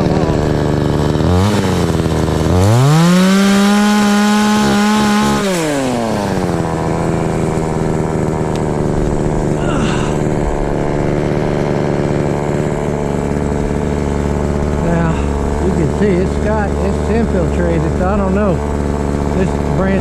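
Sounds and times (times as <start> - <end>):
two-stroke chainsaw: 0.0 - 20.0.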